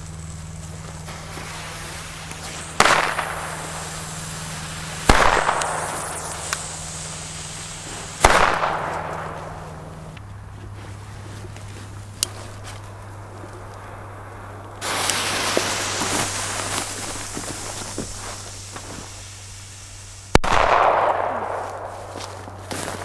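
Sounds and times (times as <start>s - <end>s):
firecrackers exploding with echo: 0.0s - 10.2s, 12.5s - 23.0s.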